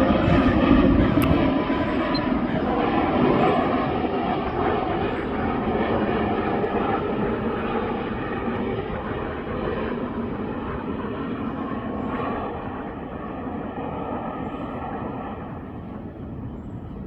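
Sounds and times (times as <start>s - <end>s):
airplane engine passing: 0.0s - 17.0s.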